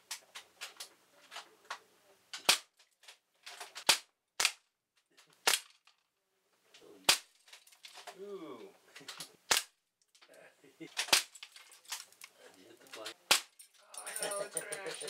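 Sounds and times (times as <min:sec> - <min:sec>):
faint cracks and knocks: 0:00.0 - 0:08.2, 0:08.9 - 0:13.8.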